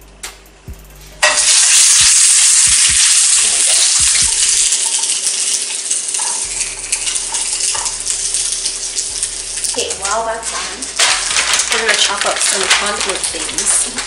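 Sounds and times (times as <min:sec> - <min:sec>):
patty sizzling in hot pan: 0:01.2 - 0:14.0.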